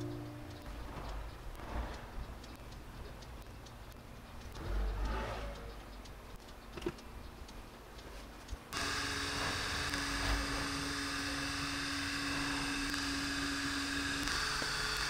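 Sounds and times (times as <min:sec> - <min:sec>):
laser engraver fan whir: 0:00.0 - 0:15.0
small electronic parts clicking: 0:00.0 - 0:15.0
steady hum tone: 0:00.0 - 0:15.0.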